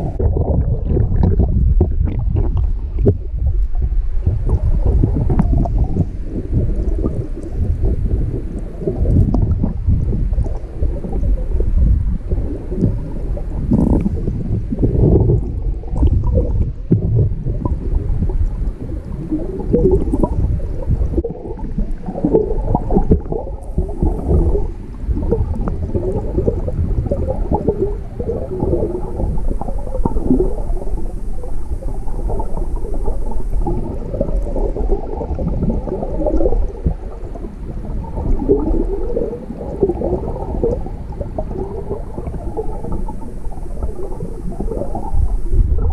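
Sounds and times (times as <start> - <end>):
muffled underwater stream rushing: 0.0 - 45.9.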